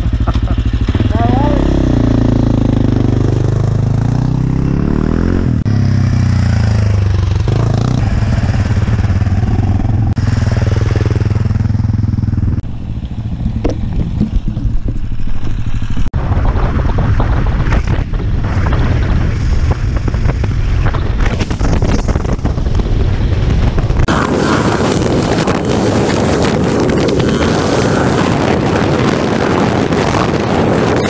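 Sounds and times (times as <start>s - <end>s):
motorcycle engines revving: 0.0s - 14.6s, 18.5s - 31.0s
wind and road noise: 0.0s - 31.0s.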